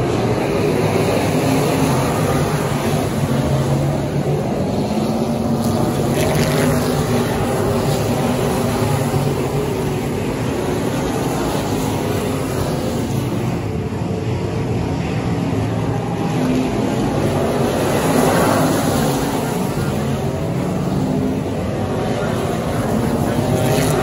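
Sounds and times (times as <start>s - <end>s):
race car engines running: 0.0s - 24.0s.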